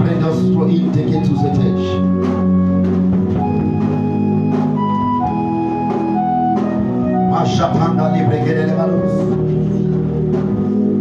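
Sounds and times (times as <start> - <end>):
light percussion: 0.0 - 11.0
sustained worship music chords: 0.0 - 11.0.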